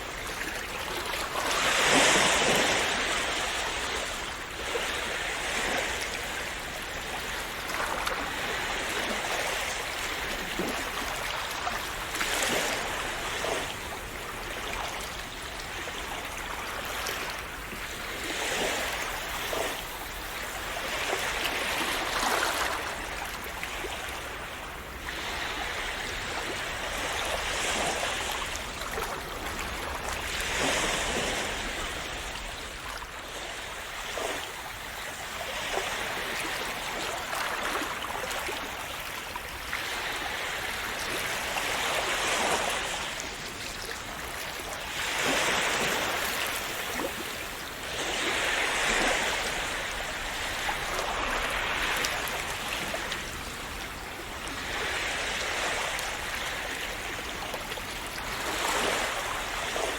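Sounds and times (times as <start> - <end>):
sea waves washing on shore: 0.0 - 59.9.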